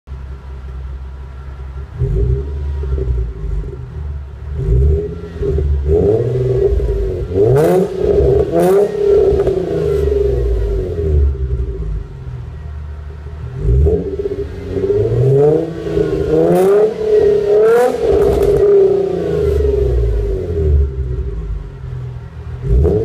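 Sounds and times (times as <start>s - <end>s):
car engine revving: 1.6s - 23.0s
exhaust cracks: 1.7s - 12.4s, 13.2s - 23.0s.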